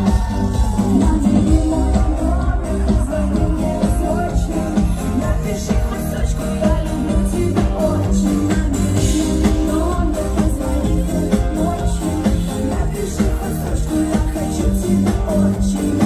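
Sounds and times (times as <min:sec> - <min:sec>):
live pop-rock band: 0:00.0 - 0:16.0
person singing: 0:00.0 - 0:16.0.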